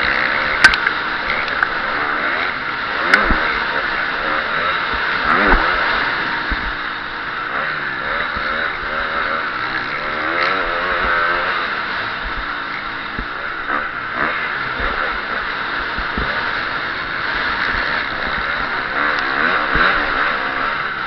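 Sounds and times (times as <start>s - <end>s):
motocross engine revving: 0.0s - 21.0s
steady rushing noise: 0.0s - 21.0s.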